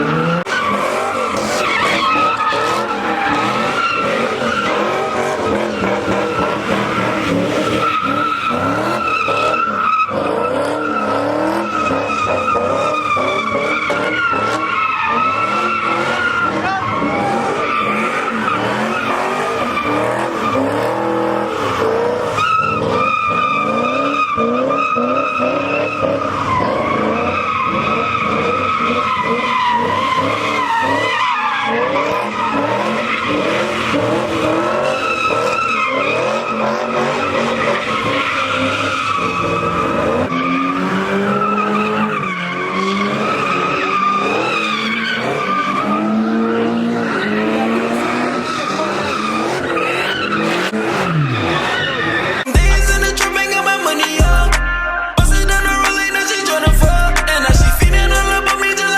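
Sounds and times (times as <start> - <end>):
engine revving: 0.0 - 53.6
car tyres squealing: 0.0 - 58.9.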